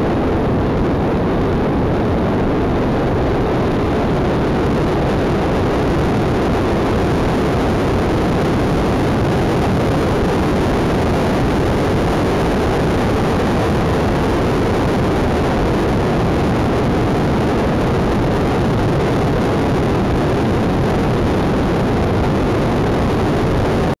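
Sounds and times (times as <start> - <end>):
motorcycle running with road noise: 0.0 - 23.9
wind rushing over microphone: 0.0 - 24.0.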